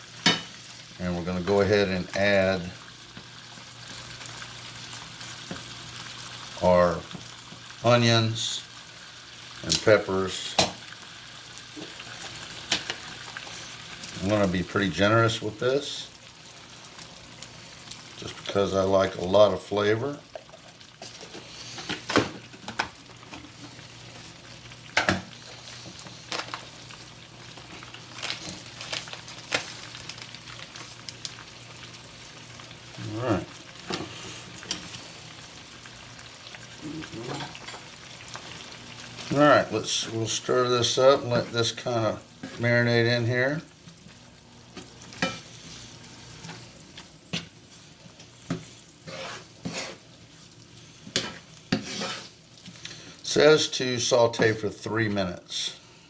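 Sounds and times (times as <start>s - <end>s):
vegetables sizzling in a pot: 0.0s - 56.0s.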